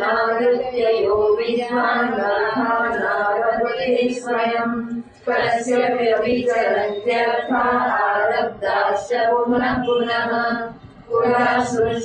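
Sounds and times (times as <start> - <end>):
woman chanting: 0.0 - 12.0.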